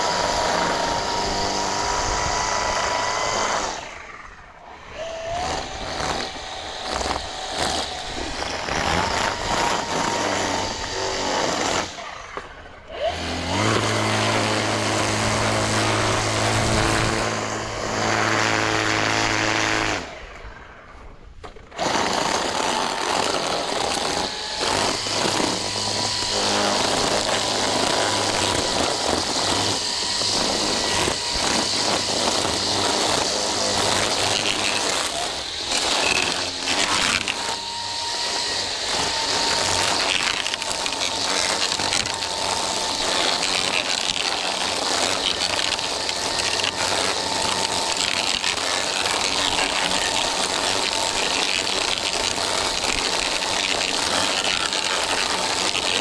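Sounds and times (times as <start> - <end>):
string trimmer cutting grass: 0.0 - 56.0.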